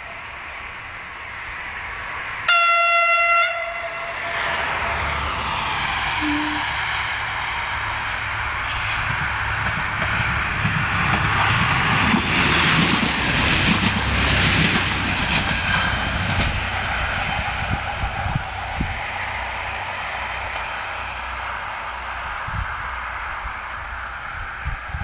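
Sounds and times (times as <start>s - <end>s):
railcar engine and wheels passing: 0.0s - 25.0s.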